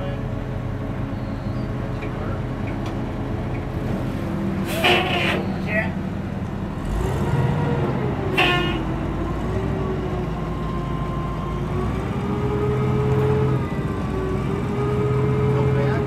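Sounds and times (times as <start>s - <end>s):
forklift engine running: 0.0s - 16.0s.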